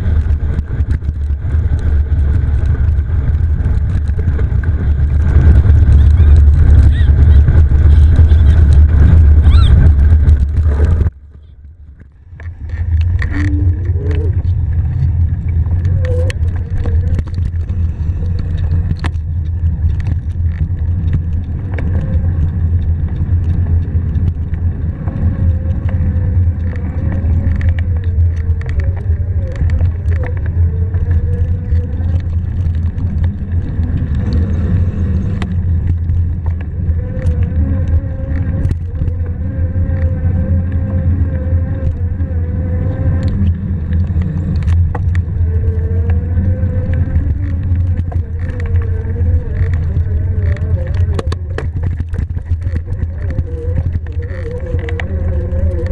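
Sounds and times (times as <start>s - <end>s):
sharp clicks from bumps: 0.0s - 55.9s
tires rolling: 0.0s - 55.9s
wind on microphone: 0.0s - 55.9s.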